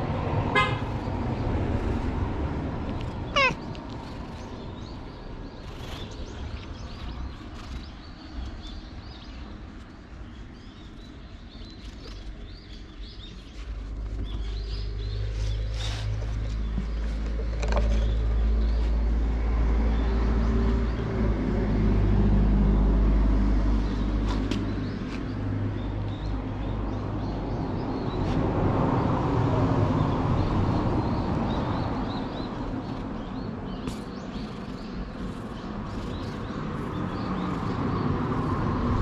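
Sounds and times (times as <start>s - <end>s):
small birds chirping: 0.8s - 21.5s, 23.5s - 28.4s, 29.0s - 39.0s.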